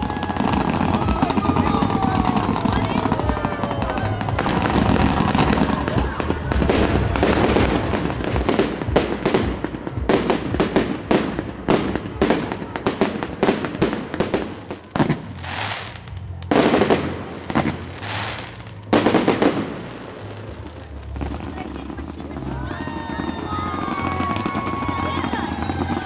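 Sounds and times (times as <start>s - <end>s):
fireworks cracks and pops: 0.0s - 26.0s
fireworks hissing bursts: 0.0s - 26.0s.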